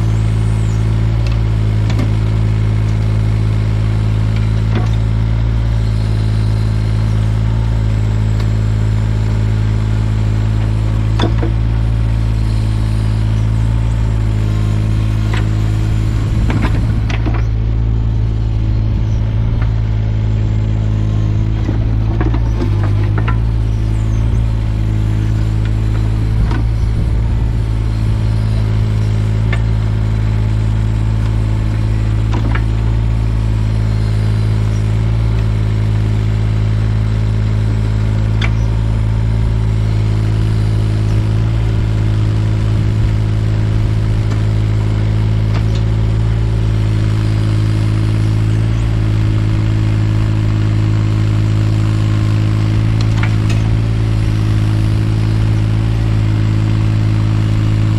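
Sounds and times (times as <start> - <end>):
mini excavator diesel engine running: 0.0 - 57.9.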